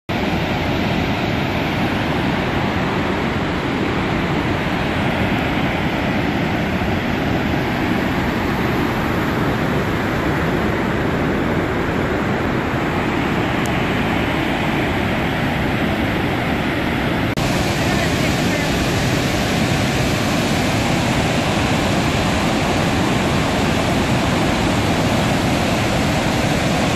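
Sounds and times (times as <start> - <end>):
water rushing through spillway: 0.1 - 26.9.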